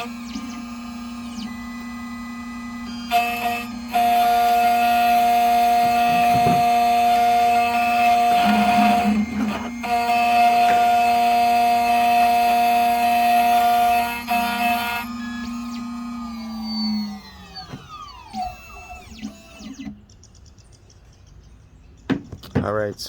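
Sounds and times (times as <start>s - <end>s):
key cutting machine whine: 0.0s - 20.0s.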